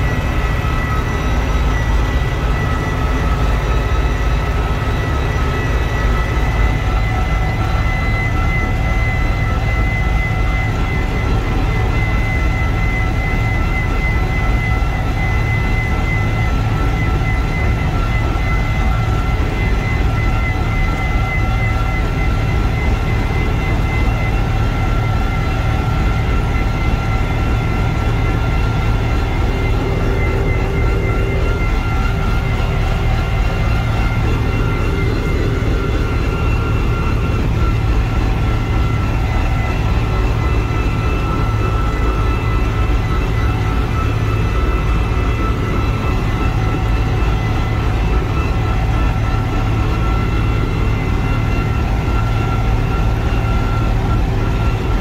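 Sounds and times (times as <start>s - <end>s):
high-pitched whine: 0.0s - 55.0s
tractor diesel engine running: 0.0s - 55.0s.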